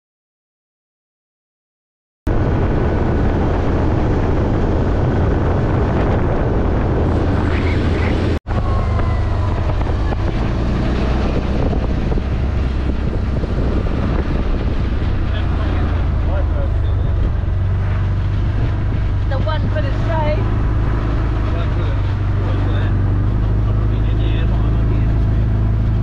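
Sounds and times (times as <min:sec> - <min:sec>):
buggy engine running: 0:02.3 - 0:26.0
wind buffeting microphone: 0:02.3 - 0:26.0.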